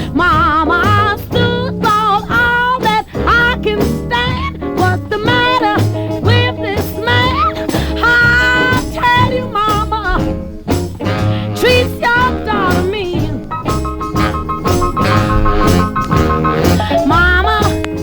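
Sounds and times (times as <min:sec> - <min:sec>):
rhythm and blues record: 0:00.1 - 0:18.0.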